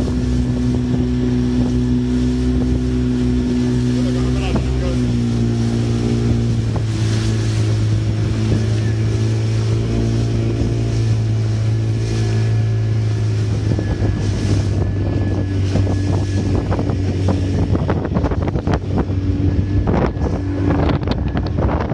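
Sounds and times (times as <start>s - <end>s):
boat engine running: 0.0s - 21.9s
wind noise on microphone: 0.0s - 21.9s.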